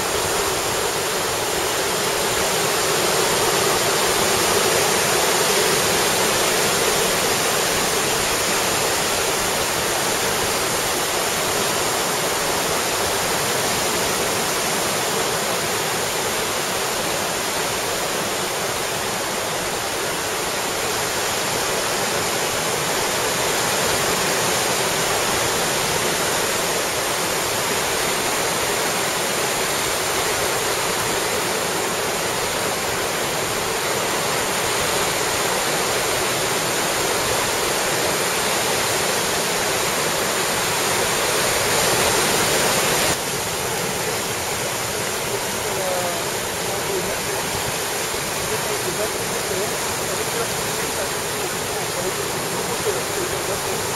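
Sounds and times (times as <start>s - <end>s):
turbulent water rushing: 0.0s - 53.9s.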